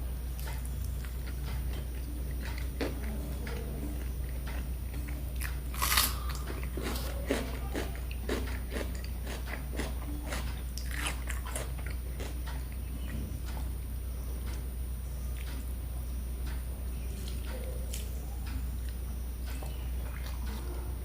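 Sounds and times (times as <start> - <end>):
low hum: 0.0 - 21.0
chewing crisp fried food: 0.3 - 15.8, 16.4 - 21.0.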